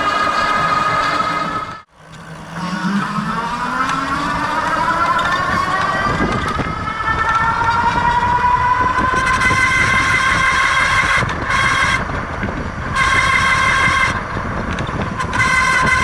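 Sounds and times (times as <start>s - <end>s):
hub motor whine: 0.0s - 16.0s
rough noisy rumble: 0.0s - 16.0s.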